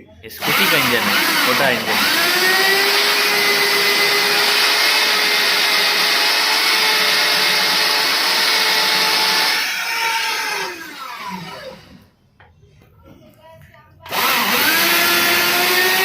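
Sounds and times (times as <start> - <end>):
boring machine whining: 0.4 - 12.1, 14.1 - 16.0.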